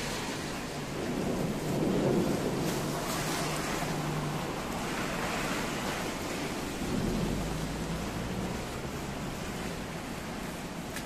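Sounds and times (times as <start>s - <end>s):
thunder rumble: 0.0s - 10.9s
rain and wind hiss: 0.0s - 11.0s.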